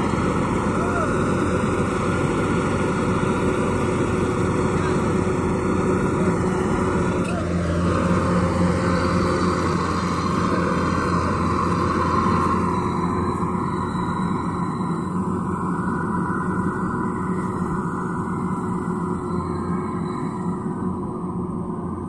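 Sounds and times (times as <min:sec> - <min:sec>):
combine harvester machinery running: 0:00.0 - 0:22.0.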